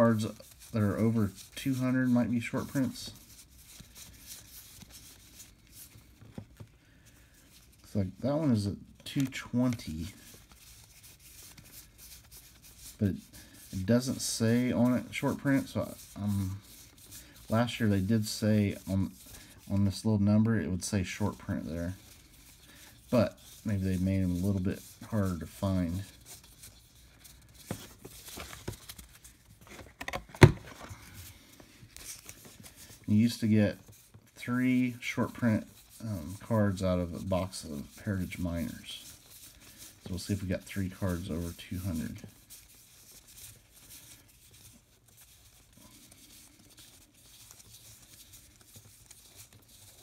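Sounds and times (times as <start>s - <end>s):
cards rustling and clicking: 0.0s - 50.0s.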